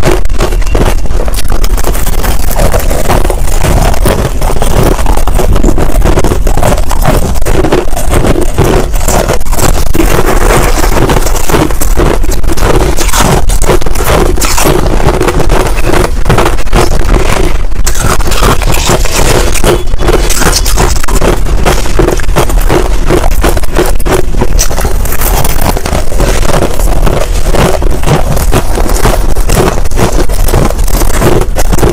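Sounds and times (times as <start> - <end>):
crushed ice being chewed: 0.0 - 31.9.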